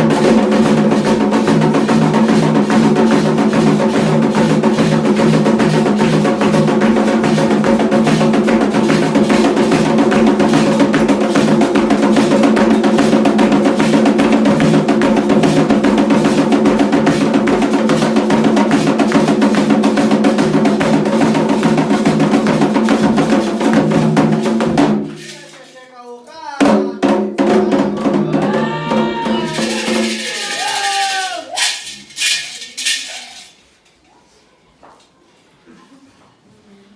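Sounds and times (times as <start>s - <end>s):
fast hand drumming: 0.0s - 25.4s, 26.6s - 32.4s.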